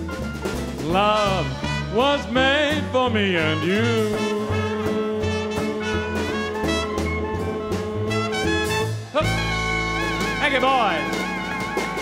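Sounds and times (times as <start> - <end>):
big band playing swing: 0.0 - 12.0.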